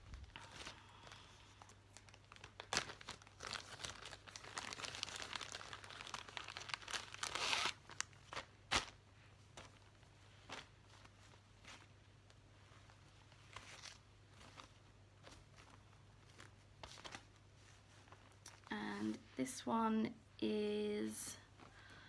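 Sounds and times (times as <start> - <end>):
packaging crinkling and rustling: 0.0 - 18.7.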